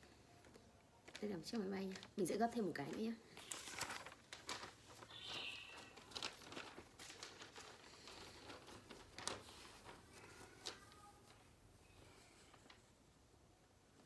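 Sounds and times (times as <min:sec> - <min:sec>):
paper rustling and crinkling: 0:00.4 - 0:13.1.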